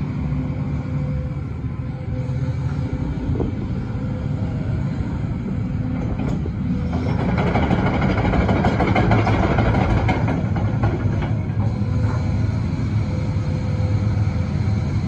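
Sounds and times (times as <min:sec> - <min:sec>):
excavator diesel engine rumbling: 0:00.0 - 0:15.0.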